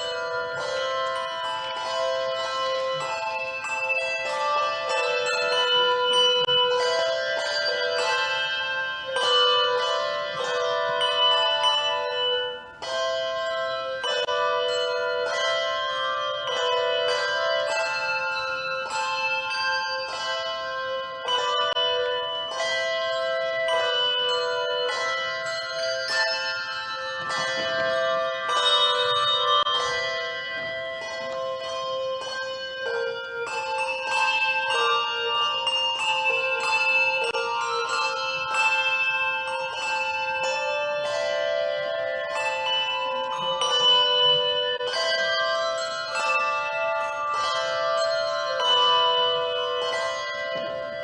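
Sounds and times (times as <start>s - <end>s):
handbell choir playing chords: 0.0s - 51.0s.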